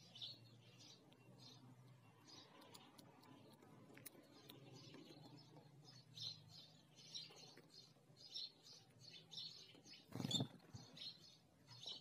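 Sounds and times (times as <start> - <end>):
sparrow chirping: 0.0 - 12.0.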